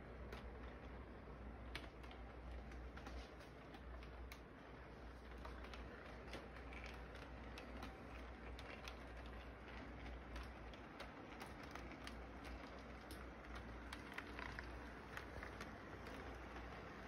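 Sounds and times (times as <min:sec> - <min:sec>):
light clicks of train on track: 0:00.0 - 0:17.0
model train mechanical hum: 0:00.0 - 0:17.0.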